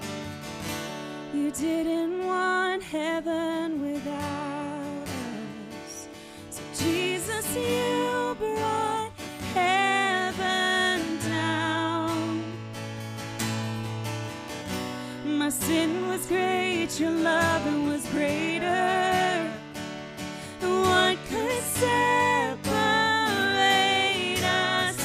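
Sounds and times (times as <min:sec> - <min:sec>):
strummed acoustic guitar: 0:00.0 - 0:25.0
woman singing: 0:01.3 - 0:12.8, 0:15.0 - 0:25.0.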